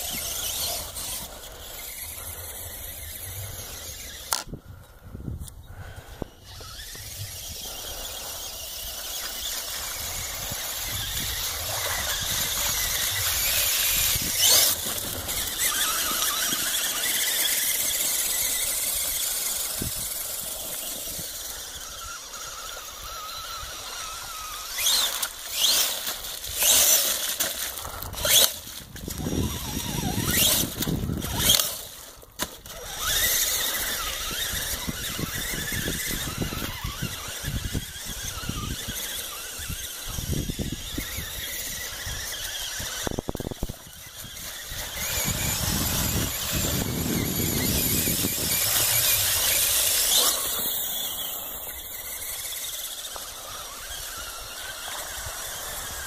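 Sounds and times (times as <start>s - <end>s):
electric motors whining: 0.0s - 56.0s.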